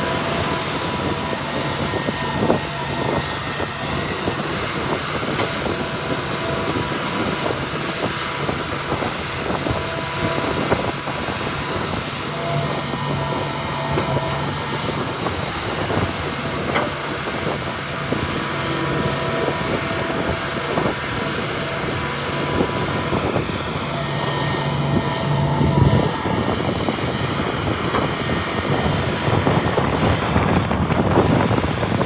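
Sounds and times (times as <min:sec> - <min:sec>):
diesel machinery running: 0:00.0 - 0:32.0.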